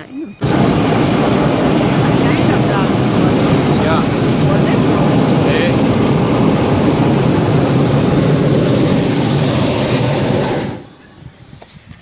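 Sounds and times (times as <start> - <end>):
propane burner firing: 0.4 - 11.3.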